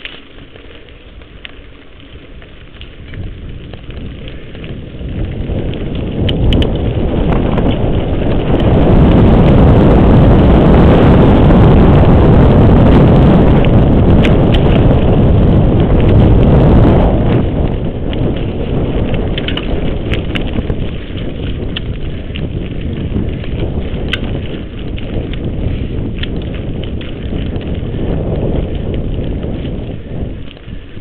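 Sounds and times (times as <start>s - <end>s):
bike knocking and rattling: 0.0s - 31.0s
tyres on dirt trail: 0.0s - 31.0s
wind rush on microphone: 0.0s - 31.0s.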